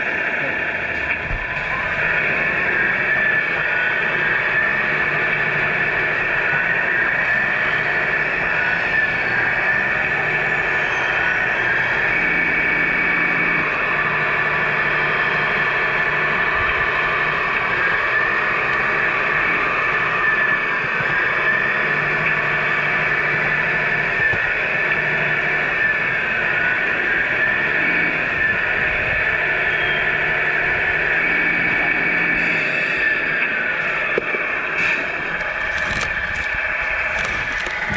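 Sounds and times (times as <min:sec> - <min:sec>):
toy truck motor whine: 0:00.0 - 0:37.9.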